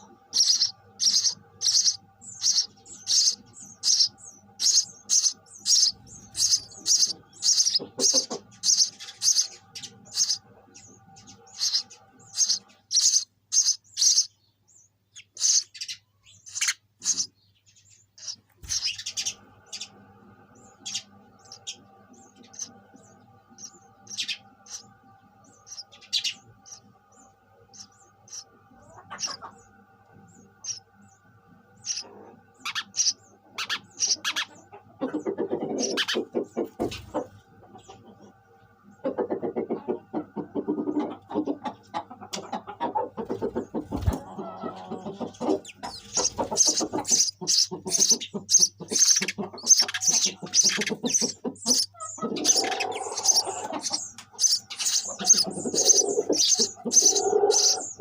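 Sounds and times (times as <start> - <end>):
low rapid bird chattering: 0.0 - 58.0
sparrows chirping: 0.0 - 58.0.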